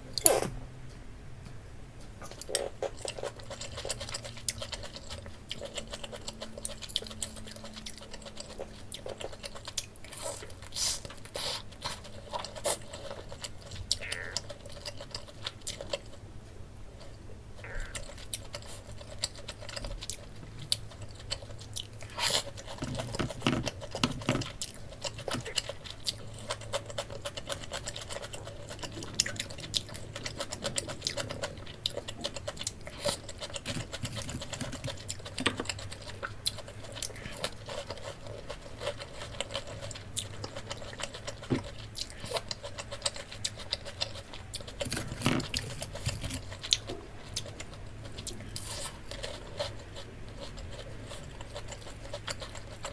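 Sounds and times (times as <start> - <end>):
crunching and chewing fried food: 2.2 - 52.9.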